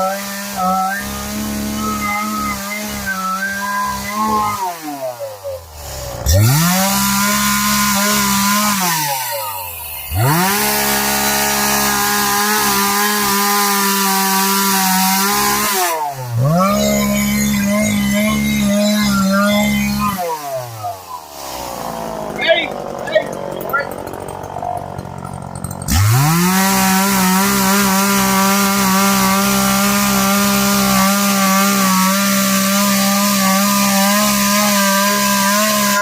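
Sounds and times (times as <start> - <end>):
chainsaw running at high revs: 0.0 - 36.0.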